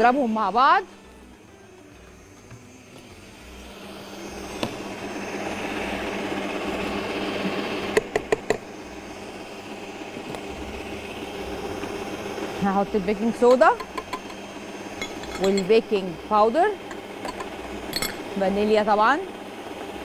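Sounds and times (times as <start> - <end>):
stand mixer running: 0.0 - 20.0.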